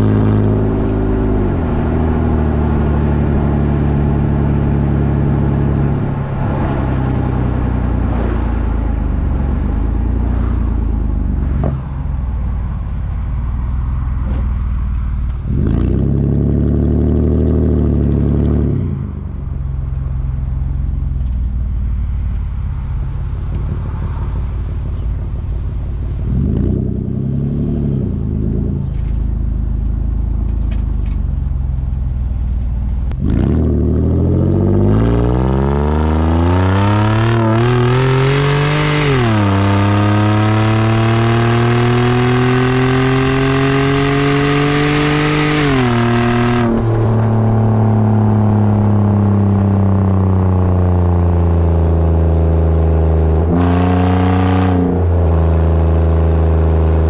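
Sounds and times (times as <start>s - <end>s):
minivan engine idling and revving: 0.0s - 57.0s.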